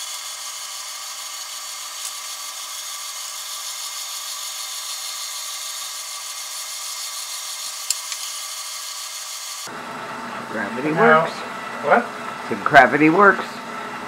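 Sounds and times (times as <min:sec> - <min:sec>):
stand mixer motor whining: 0:00.0 - 0:14.0.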